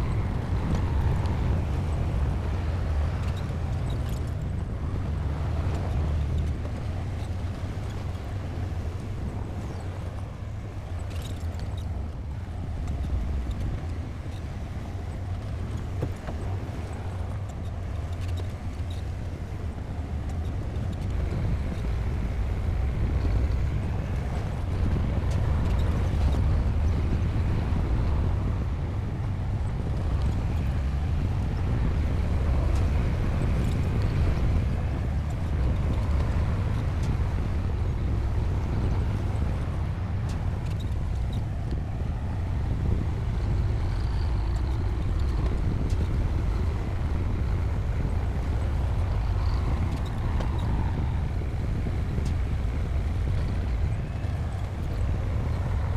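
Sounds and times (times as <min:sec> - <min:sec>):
bulldozer diesel engine rumbling: 0:00.0 - 0:55.9.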